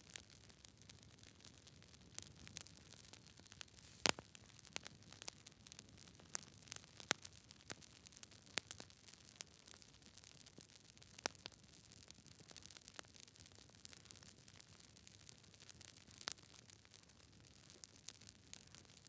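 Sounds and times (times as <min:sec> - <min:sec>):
campfire crackling: 0:00.1 - 0:19.0.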